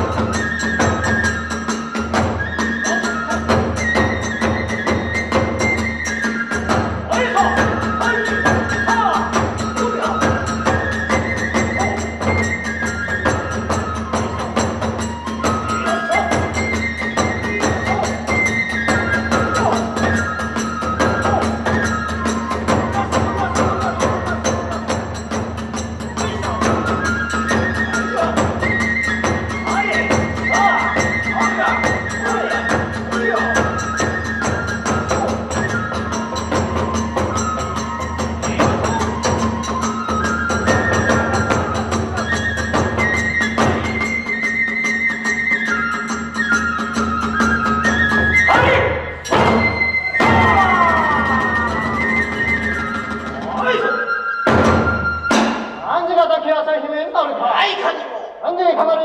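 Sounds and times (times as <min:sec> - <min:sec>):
drums beating: 0:00.0 - 0:44.8, 0:45.9 - 0:56.5
bamboo flute melody: 0:00.0 - 0:57.2.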